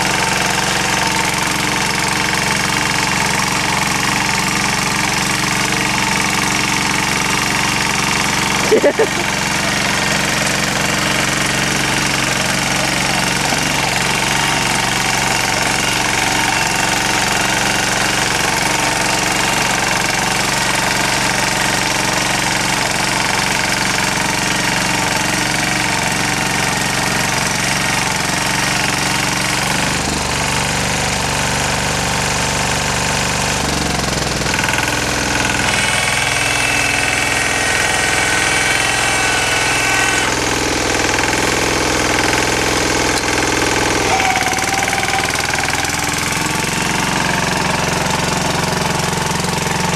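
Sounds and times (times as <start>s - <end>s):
rotary tiller running: 0.0s - 49.9s.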